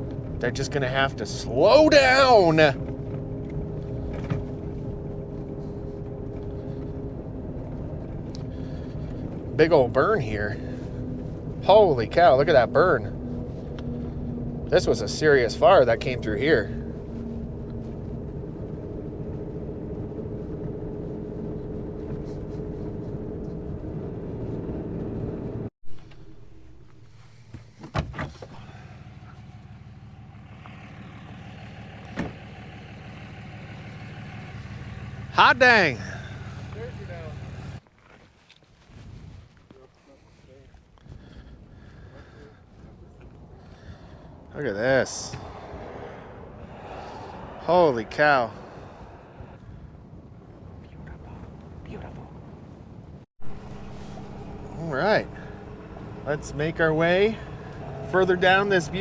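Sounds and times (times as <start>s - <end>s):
level hum: 0.0s - 27.8s, 28.4s - 37.8s, 42.7s - 50.4s, 53.4s - 59.0s
truck engine and road rumble: 0.0s - 59.0s.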